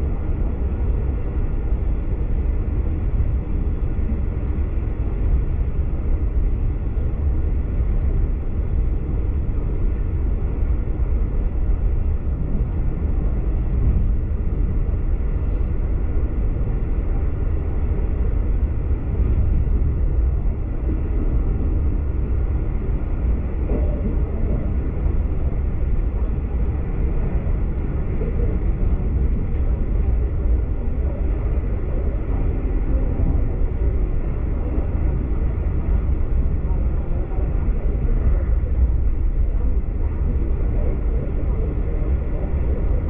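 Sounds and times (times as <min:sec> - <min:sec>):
train rumbling at speed: 0:00.0 - 0:43.0.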